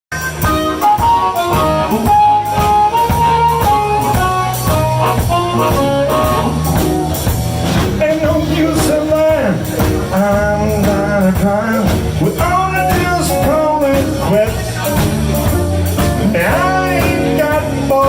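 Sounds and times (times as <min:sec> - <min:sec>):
blues band playing: 0:00.1 - 0:18.0.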